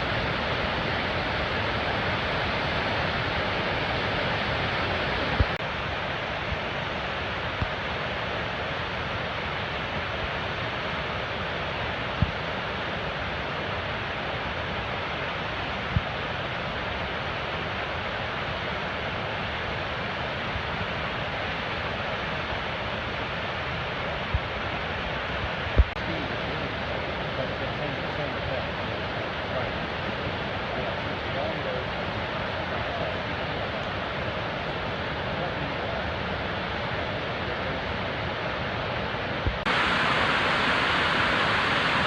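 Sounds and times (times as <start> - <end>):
waterfall rushing: 0.0 - 12.8, 16.5 - 42.0.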